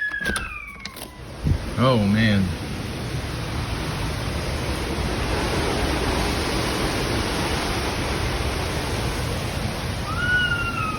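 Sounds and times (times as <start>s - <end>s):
hurricane wind: 0.0s - 10.9s
heavy rain: 1.1s - 10.9s.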